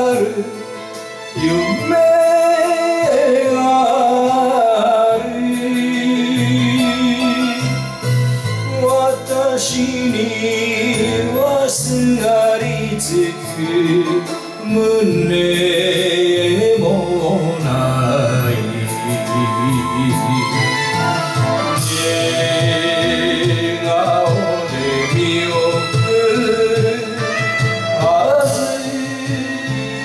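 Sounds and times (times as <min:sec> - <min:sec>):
karaoke backing track: 0:00.0 - 0:30.0
man singing into a microphone: 0:00.0 - 0:30.0.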